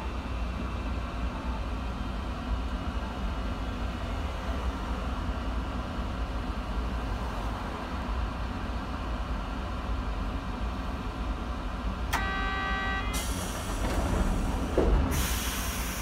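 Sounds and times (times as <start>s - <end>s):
low hum inside tram cab: 0.0s - 16.0s
road traffic passing: 2.5s - 16.0s.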